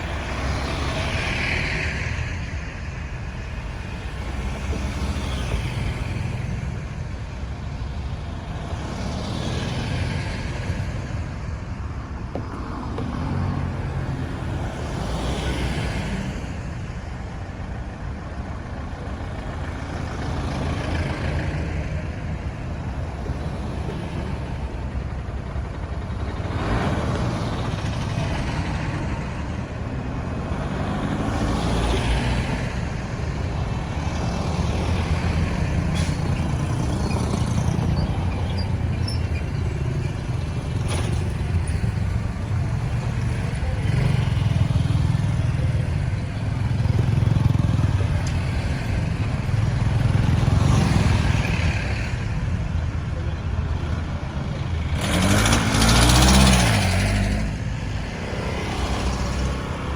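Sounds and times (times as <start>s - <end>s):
traffic rumble: 0.0s - 59.9s
vehicles passing: 0.0s - 59.9s.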